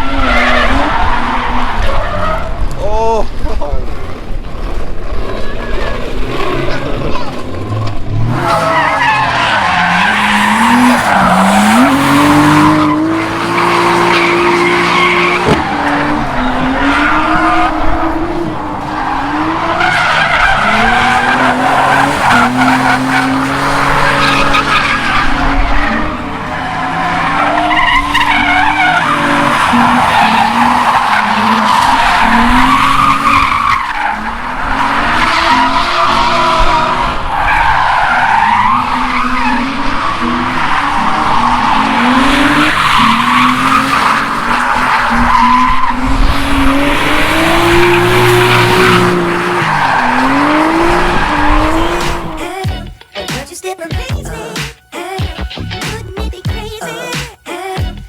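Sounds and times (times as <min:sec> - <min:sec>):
car engine revving: 0:00.0 - 0:52.9
tyres squealing: 0:05.3 - 0:54.8.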